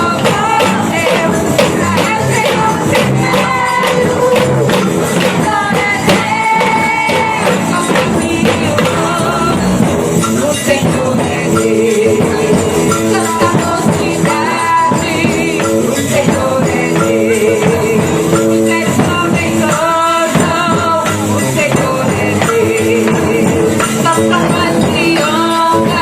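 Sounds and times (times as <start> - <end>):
live worship band music: 0.0 - 26.0
singing: 0.0 - 26.0
tambourine: 0.0 - 26.0.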